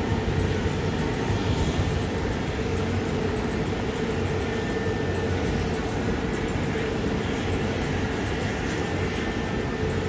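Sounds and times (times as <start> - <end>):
jet engines droning: 0.0 - 10.0.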